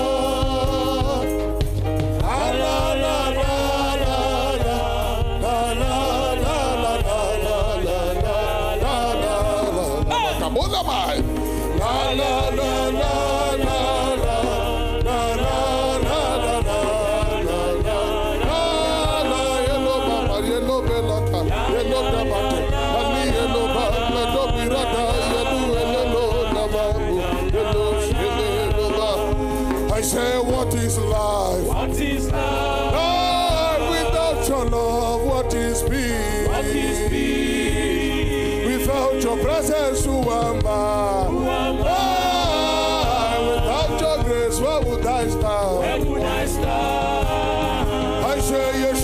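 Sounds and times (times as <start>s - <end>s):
person singing: 0.0s - 1.6s, 2.2s - 49.0s
steady bass: 0.0s - 49.0s
sustained keyboard chords: 0.0s - 49.0s.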